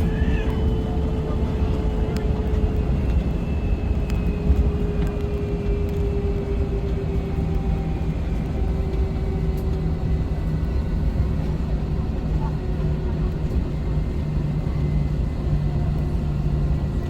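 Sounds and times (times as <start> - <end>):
jet engine rumble in cabin: 0.0 - 17.0.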